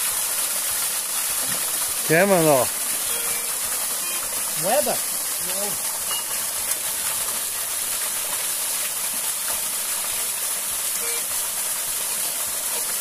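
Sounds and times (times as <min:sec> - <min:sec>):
small waterfall pouring into pool: 0:00.0 - 0:13.0.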